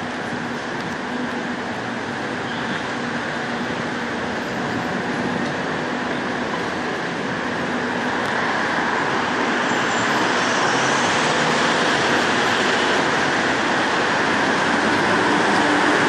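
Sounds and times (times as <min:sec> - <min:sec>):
city traffic din: 0:00.0 - 0:16.0.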